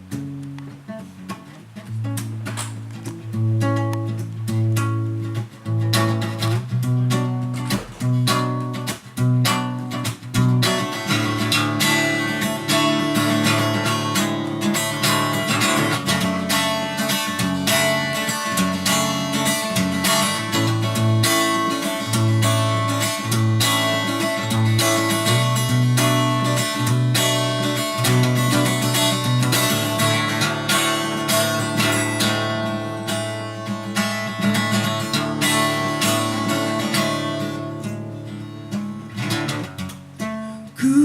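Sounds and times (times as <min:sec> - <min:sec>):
acoustic guitar strumming: 0:00.0 - 0:41.0.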